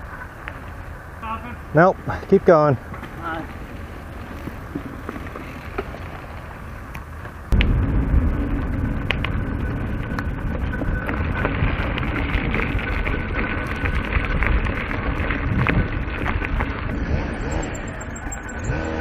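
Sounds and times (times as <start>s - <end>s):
thin steady whine: 0.0s - 19.0s
wind rumble on microphone: 2.8s - 19.0s.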